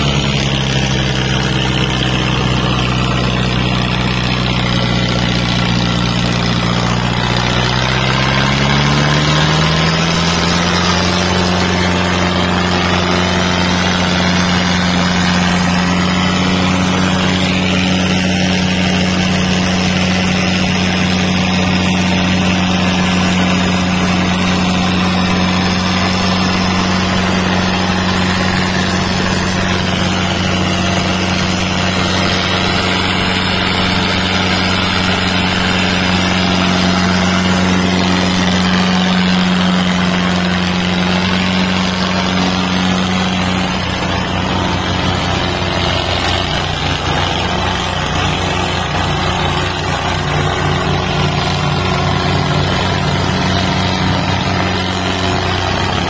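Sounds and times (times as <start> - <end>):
diesel tractor engines droning: 0.0 - 56.0.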